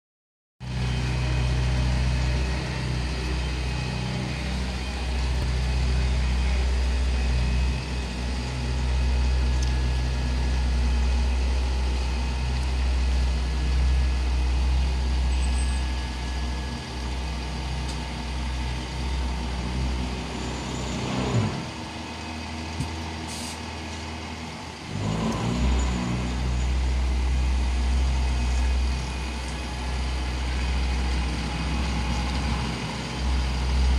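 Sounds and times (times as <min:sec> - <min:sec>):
truck diesel engine droning: 0:00.6 - 0:33.9.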